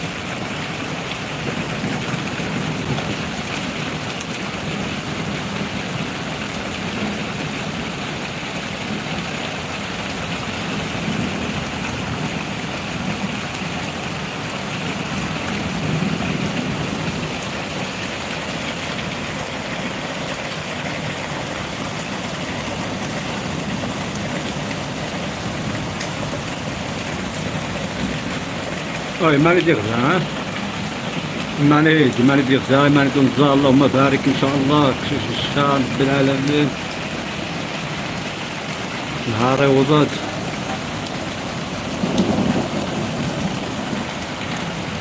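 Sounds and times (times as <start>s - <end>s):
floodwater running: 0.0s - 45.0s
heavy rain pouring: 0.0s - 45.0s.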